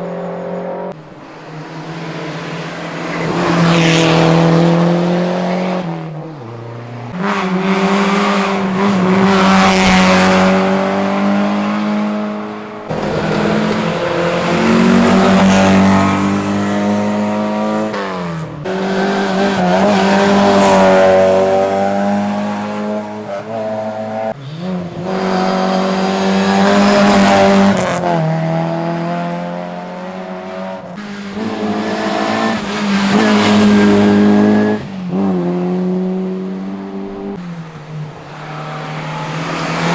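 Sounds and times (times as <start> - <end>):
rally car engines revving past: 0.0 - 39.9.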